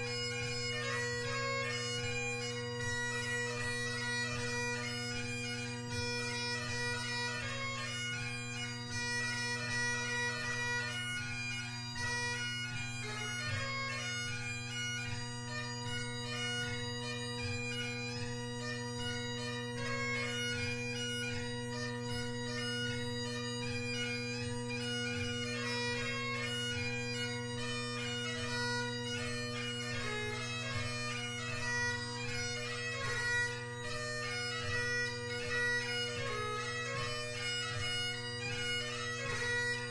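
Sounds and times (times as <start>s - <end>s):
bagpipe chanter melody: 0.0s - 39.9s
bagpipe drones: 0.0s - 39.9s.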